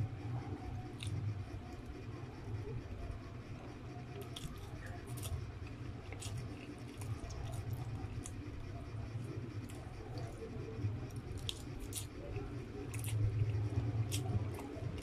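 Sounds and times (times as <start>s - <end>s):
steady low hum: 0.0s - 15.0s
chewing noodles: 0.2s - 2.7s, 3.7s - 15.0s.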